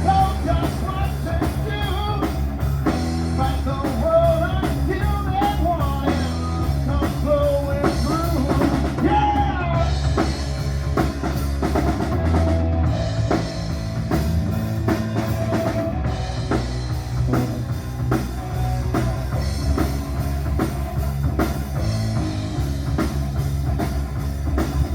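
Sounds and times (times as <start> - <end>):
bass and guitar: 0.0 - 24.9
drum kit steady beat: 0.0 - 24.9.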